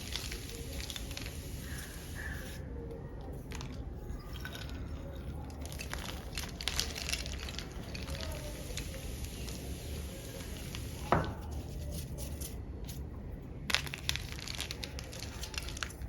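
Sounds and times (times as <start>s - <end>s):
chalk pebbles crunching: 0.0s - 2.6s, 3.2s - 16.0s.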